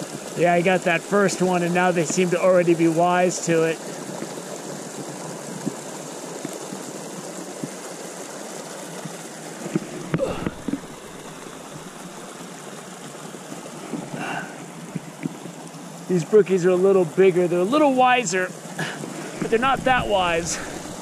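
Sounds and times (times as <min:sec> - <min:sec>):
creek water flowing: 0:00.0 - 0:21.0.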